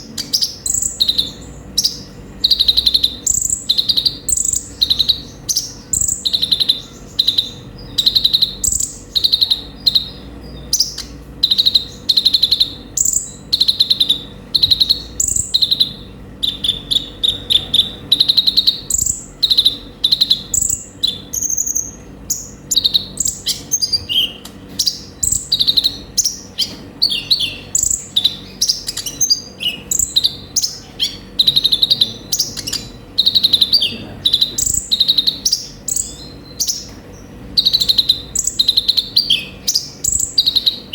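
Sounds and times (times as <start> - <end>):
bird chirping trills: 0.0 - 40.9
faint steady hum: 0.0 - 40.9.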